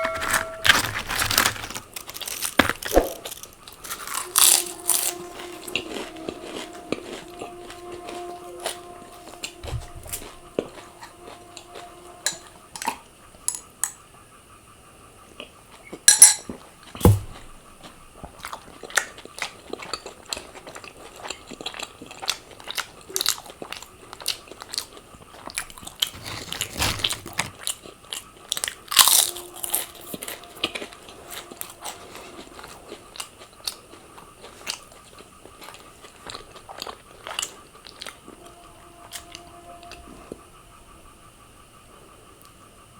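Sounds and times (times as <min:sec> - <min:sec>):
person chewing crunchy food: 0:00.2 - 0:13.0, 0:17.0 - 0:39.4.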